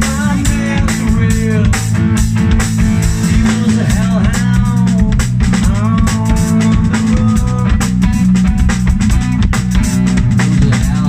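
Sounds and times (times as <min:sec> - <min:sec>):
drums steady beat: 0:00.0 - 0:11.0
live rock band playing: 0:00.0 - 0:11.0.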